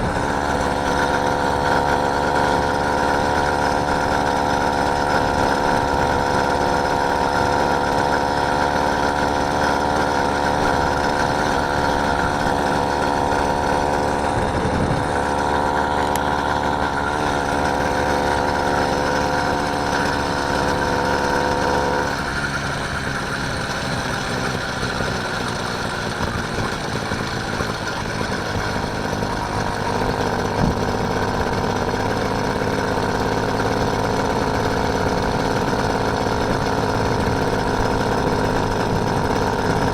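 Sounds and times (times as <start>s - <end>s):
motorised bike engine running: 0.0s - 39.9s.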